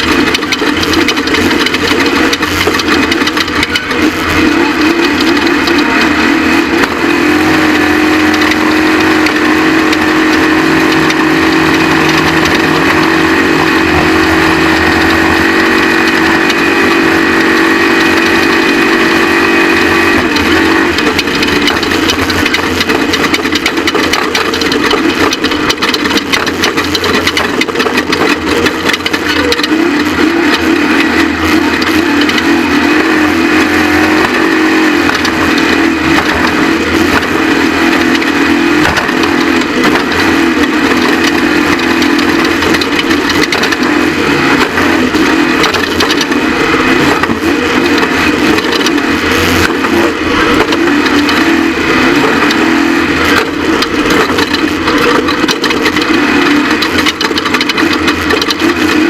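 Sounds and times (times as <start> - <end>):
rattling and knocking: 0.0 - 59.0
truck engine at high revs: 0.0 - 59.0.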